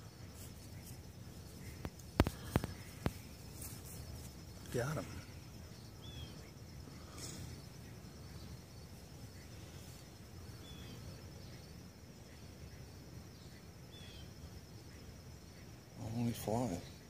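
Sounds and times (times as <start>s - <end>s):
faint bird chirps: 0.0s - 17.0s
high thin insect trill: 0.0s - 17.0s.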